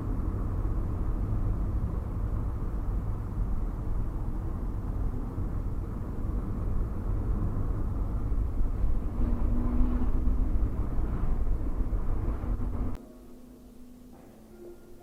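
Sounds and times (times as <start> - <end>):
steady low rumbling: 0.0 - 13.0
faint hum: 0.0 - 15.0.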